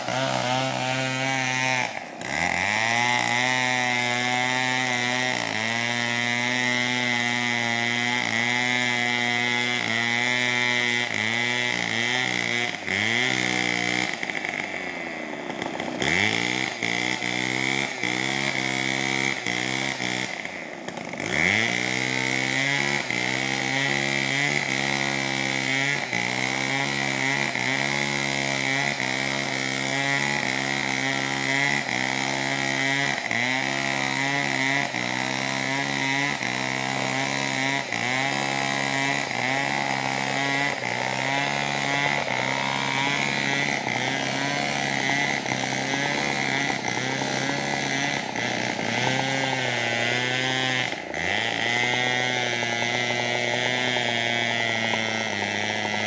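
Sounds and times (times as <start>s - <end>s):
chainsaw running at high revs: 0.0s - 56.0s.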